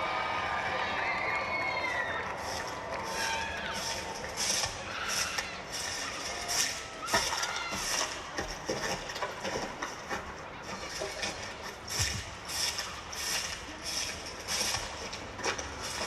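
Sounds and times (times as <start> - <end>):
crowd noise: 0.0 - 16.0.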